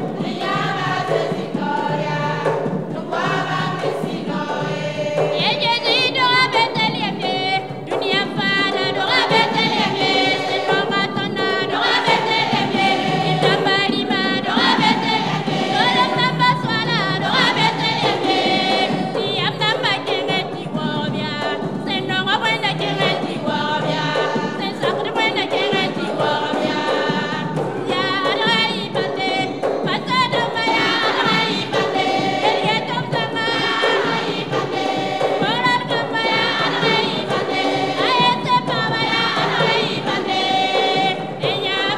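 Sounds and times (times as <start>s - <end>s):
box drum beaten by hand: 0.0s - 41.9s
women's choir singing: 0.0s - 41.9s.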